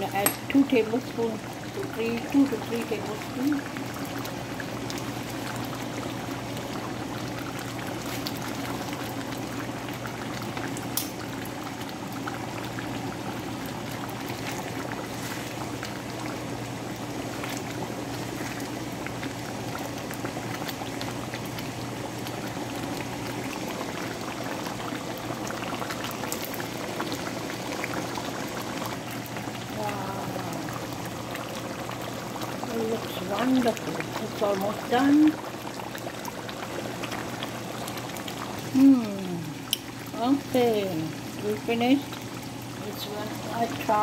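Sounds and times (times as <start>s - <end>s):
curry bubbling and popping: 0.0s - 44.0s.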